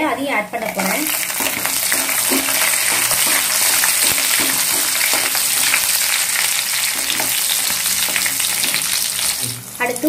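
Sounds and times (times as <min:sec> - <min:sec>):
garlic sizzling in oil: 0:00.4 - 0:10.0
metal spatula stirring: 0:00.7 - 0:09.4.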